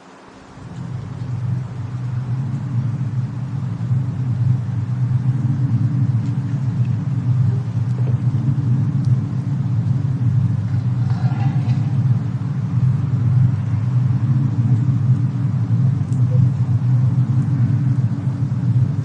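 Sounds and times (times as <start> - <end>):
faint fire crackles: 0.0 - 19.0
steady low rumble: 0.0 - 19.0.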